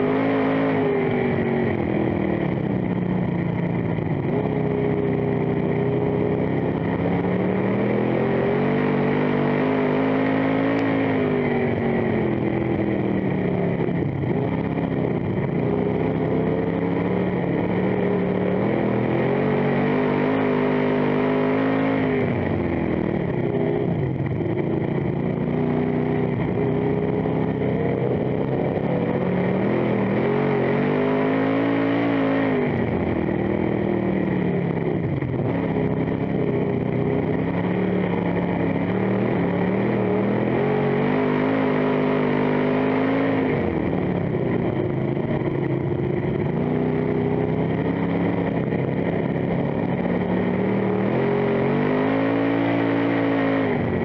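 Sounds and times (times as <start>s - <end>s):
race car engine under load: 0.0s - 54.0s.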